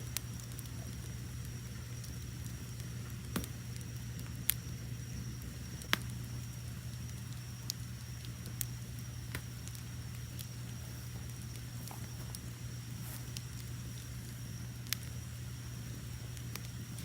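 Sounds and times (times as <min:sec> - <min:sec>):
crickets trilling: 0:00.0 - 0:17.0
wood fire crackling: 0:00.0 - 0:17.0.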